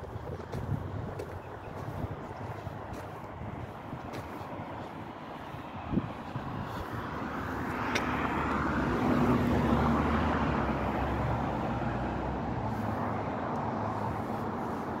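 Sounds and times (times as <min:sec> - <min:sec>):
traffic hum: 0:00.0 - 0:15.0
vehicle passing: 0:00.0 - 0:15.0.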